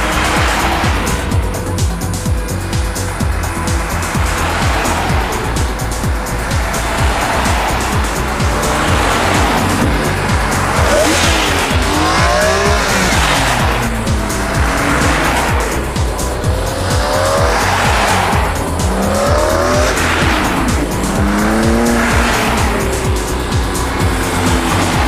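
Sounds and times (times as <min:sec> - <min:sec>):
car engine revving: 0:00.0 - 0:25.0
music with a steady beat: 0:00.0 - 0:25.0.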